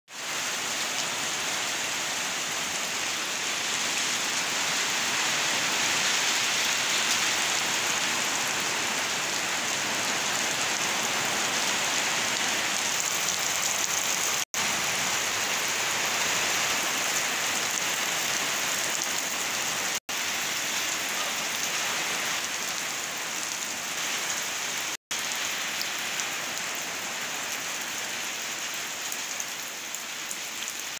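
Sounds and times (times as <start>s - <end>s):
heavy rain on muddy ground: 0.1s - 30.9s.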